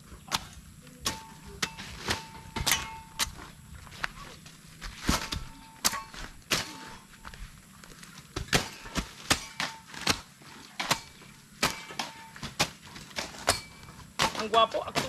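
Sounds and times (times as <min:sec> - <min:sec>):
hoes chopping into soil: 0:00.2 - 0:04.2, 0:04.8 - 0:07.4, 0:08.0 - 0:15.0.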